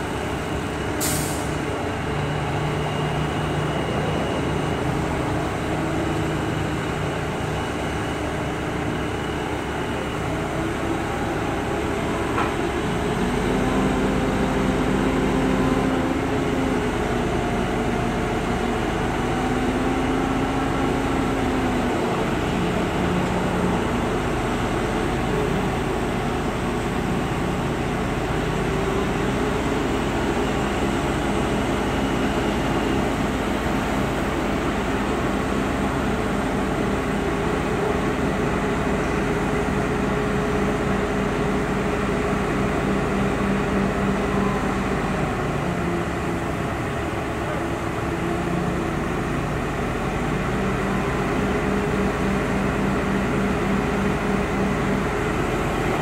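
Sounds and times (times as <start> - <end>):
crane engine running: 0.0 - 56.0.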